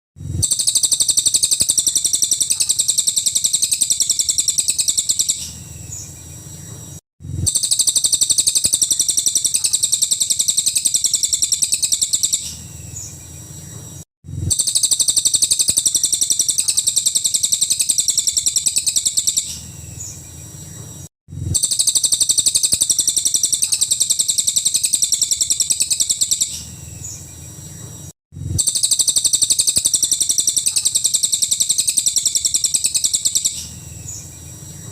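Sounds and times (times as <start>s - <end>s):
bird singing rapid trill: 0.3s - 34.9s.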